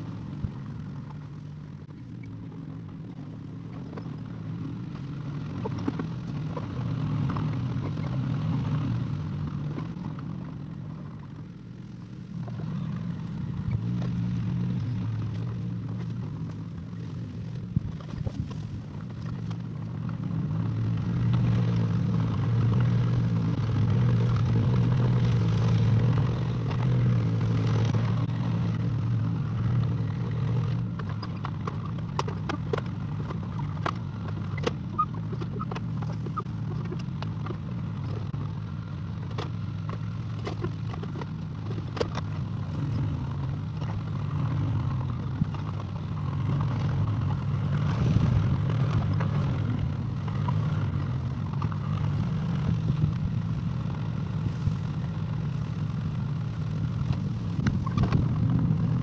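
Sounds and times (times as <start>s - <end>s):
excavator engine running: 0.0s - 59.0s.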